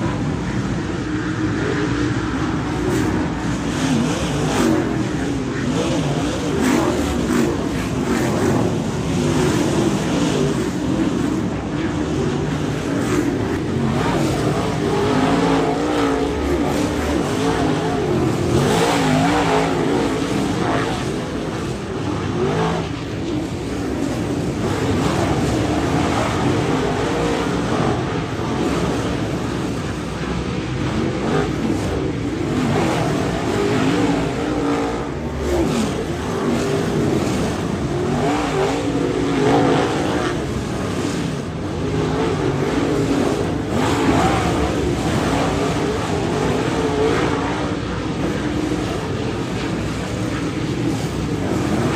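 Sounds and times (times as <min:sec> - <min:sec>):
race car engines droning: 0:00.0 - 0:51.9.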